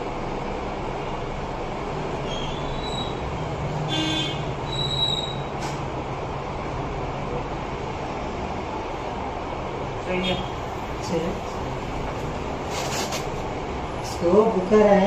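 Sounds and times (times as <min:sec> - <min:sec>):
fan or machine humming: 0:00.0 - 0:15.0.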